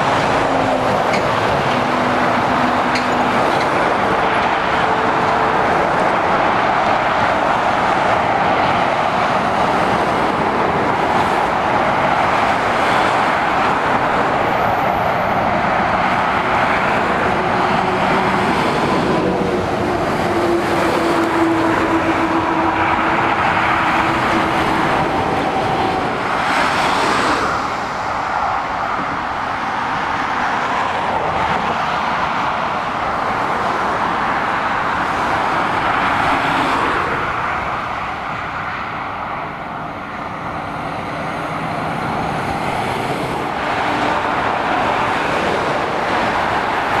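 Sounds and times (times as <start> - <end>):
motorway traffic: 0.0 - 47.0.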